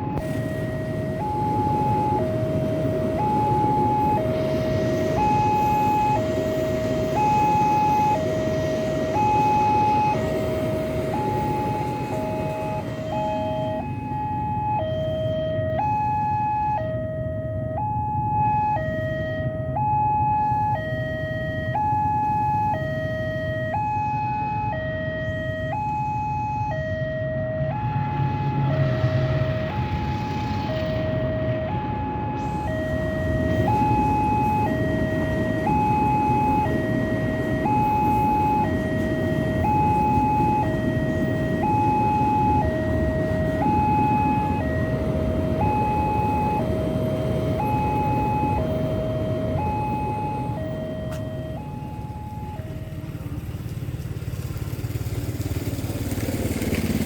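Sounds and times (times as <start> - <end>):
two-tone siren: 0.0 - 53.8
low rumble of traffic: 0.0 - 57.0.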